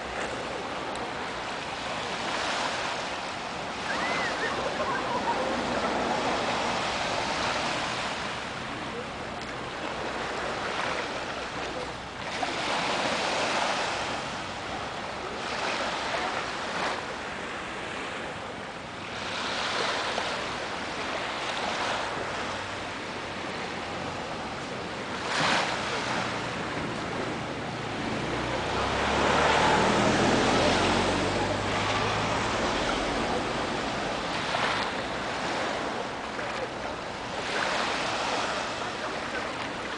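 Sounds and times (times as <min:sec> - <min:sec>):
sea waves washing on sandy beach: 0:00.0 - 0:39.9.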